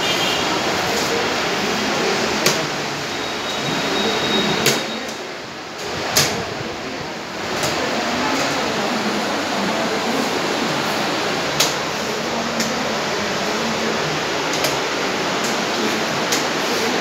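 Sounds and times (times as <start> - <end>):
room noise in hall: 0.0 - 17.0.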